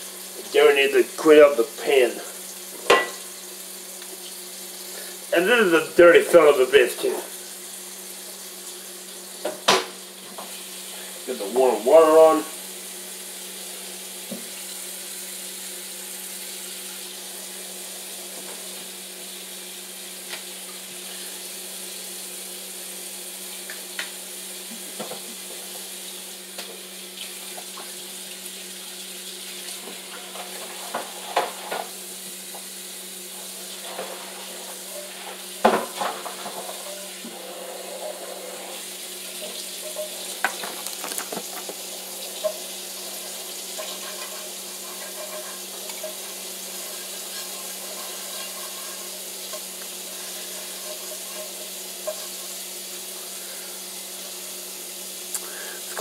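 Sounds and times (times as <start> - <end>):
water running from tap into sink: 0.0 - 56.0.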